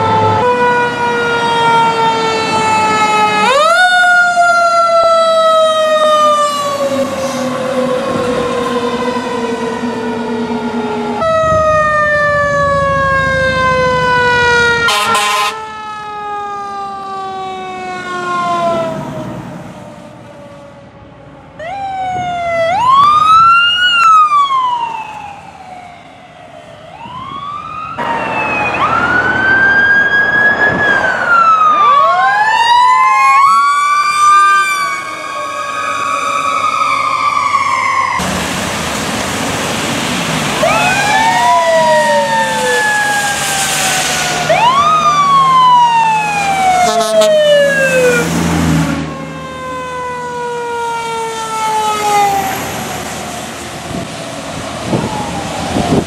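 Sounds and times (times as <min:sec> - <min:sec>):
fire truck sirens wailing: 0:00.0 - 0:56.0.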